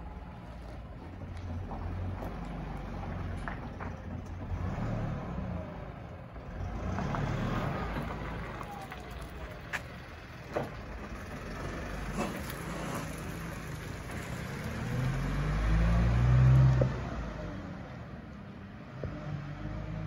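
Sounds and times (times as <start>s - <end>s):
truck engine driving off: 0.0s - 20.0s.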